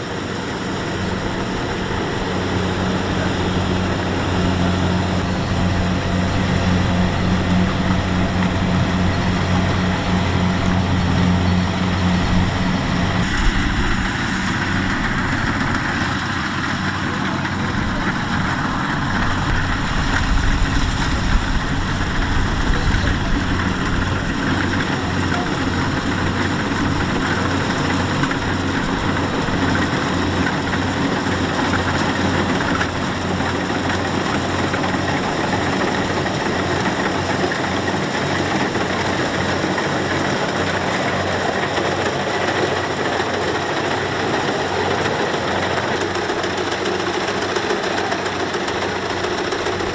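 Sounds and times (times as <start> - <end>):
combine harvester engine running: 0.0 - 49.9.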